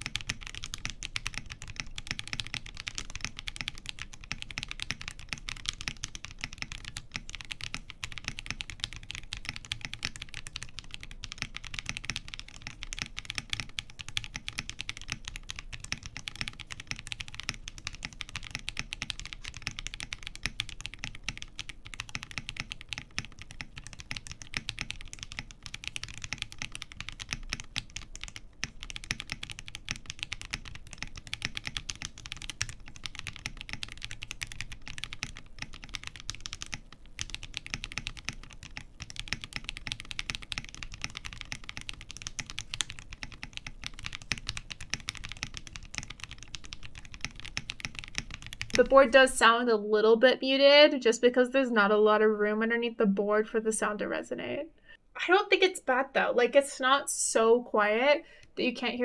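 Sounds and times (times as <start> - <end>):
fast mechanical keyboard typing: 0.0 - 49.4.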